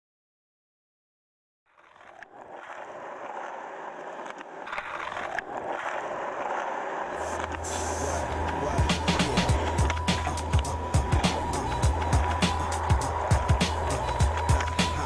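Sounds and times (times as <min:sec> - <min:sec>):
skateboard clacks: 0:01.7 - 0:15.0
skateboard wheels rolling on pavement: 0:01.7 - 0:15.0.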